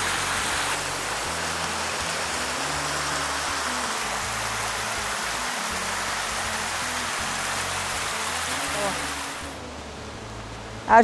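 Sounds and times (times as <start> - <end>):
stream rushing over rocks: 0.0 - 10.8
background music with low bass: 0.0 - 11.0.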